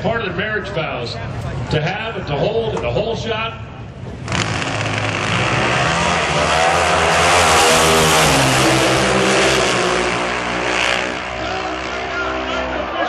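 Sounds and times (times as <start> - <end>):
racing motorcycle engines full throttle: 0.0 - 13.0.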